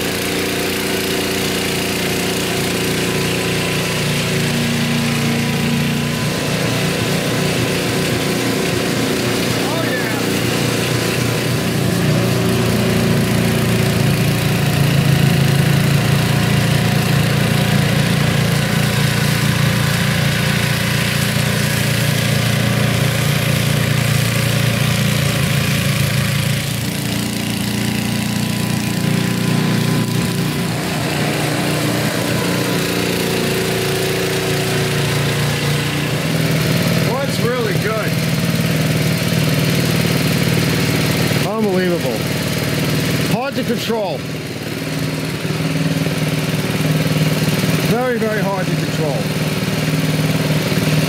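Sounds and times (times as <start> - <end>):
snowblower engine drone: 0.0 - 51.0.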